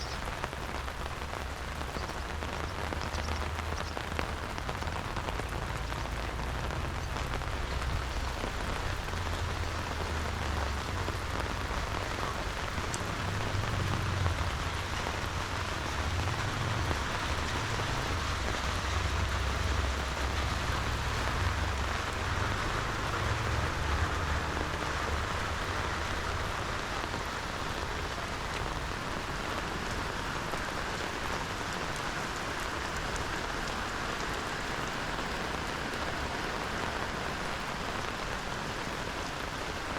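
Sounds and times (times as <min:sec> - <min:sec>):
rain drops ticking: 0:00.0 - 0:39.9
steady rain hiss: 0:00.0 - 0:39.9.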